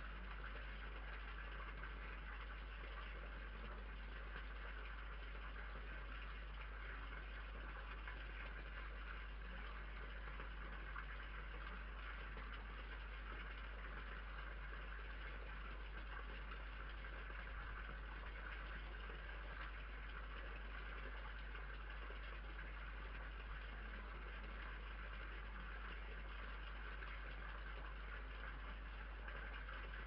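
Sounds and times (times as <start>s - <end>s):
constant low hum: 0.0s - 30.0s.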